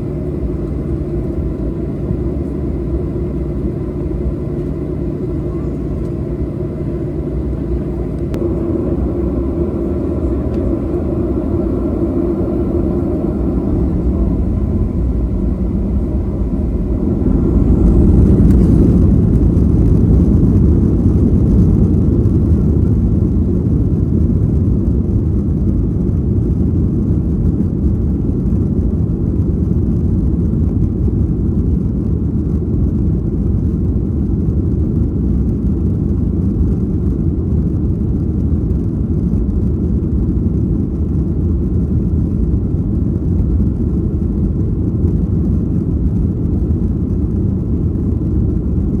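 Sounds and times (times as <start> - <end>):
jet engine cabin rumble: 0.0 - 49.0.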